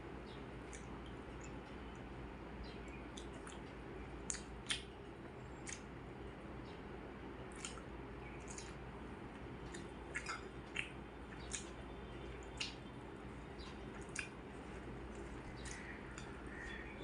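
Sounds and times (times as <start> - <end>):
steady low hum: 0.0 - 17.0
wet chewing sounds: 0.3 - 6.0, 7.4 - 17.0.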